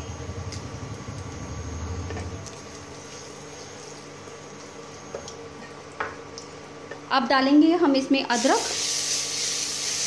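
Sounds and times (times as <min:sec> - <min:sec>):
induction cooktop humming: 0:00.0 - 0:10.0.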